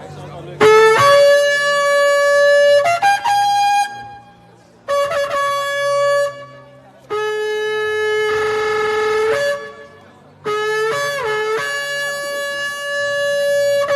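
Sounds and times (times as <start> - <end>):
ram's horn blasts: 0.6 - 13.9.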